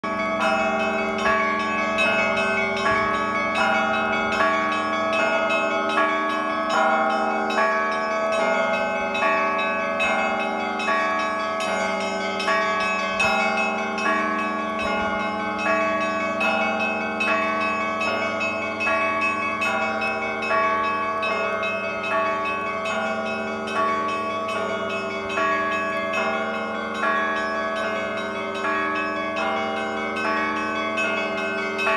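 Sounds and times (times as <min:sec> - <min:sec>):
church bells pealing: 0:00.0 - 0:31.9.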